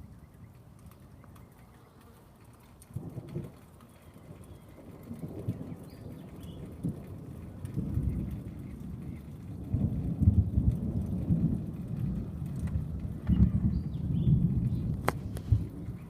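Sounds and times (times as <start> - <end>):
thunder rumbling: 2.9 - 16.0.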